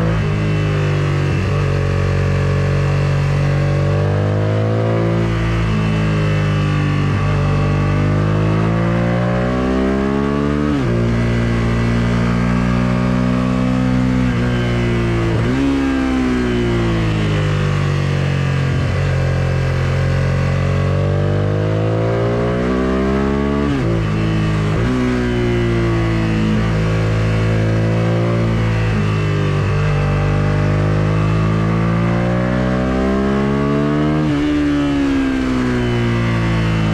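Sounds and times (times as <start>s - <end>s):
motorcycle engine under load: 0.0s - 36.9s.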